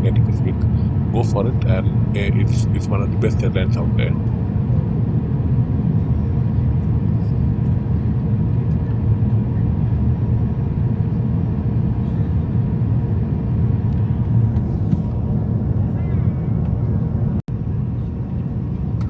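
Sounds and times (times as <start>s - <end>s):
low rumble of engines and airflow: 0.0s - 19.0s.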